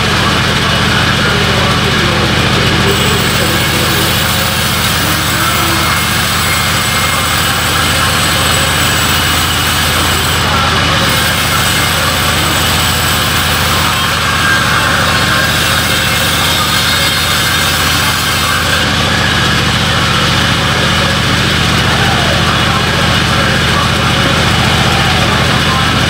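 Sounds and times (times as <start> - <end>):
band saw machine hum: 0.0 - 26.0.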